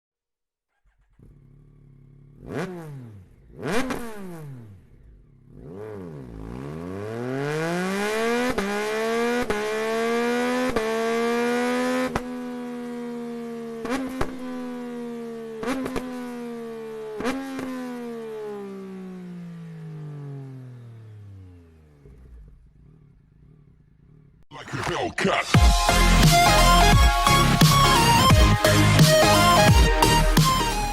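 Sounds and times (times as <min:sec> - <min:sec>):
motorcycle engine revving: 0:00.7 - 0:25.0, 0:25.6 - 0:30.9.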